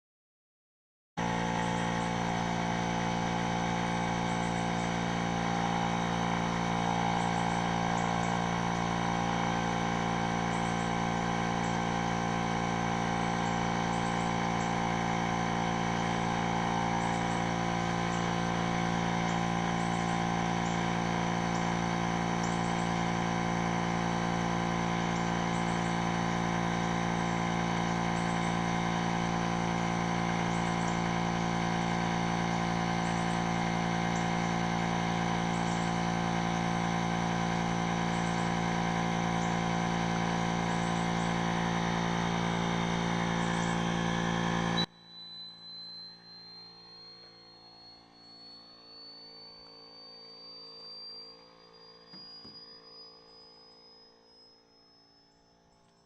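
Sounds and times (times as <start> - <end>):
motor humming: 1.2 - 56.0.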